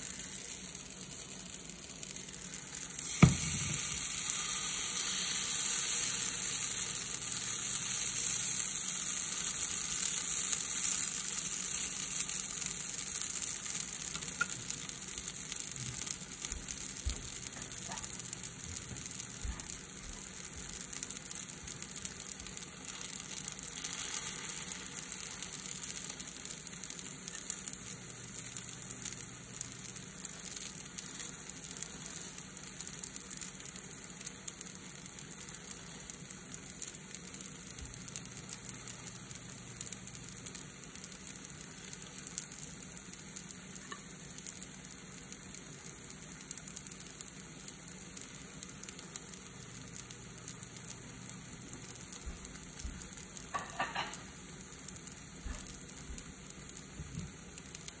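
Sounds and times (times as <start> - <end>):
batter sizzling in a pan: 0.0 - 58.0.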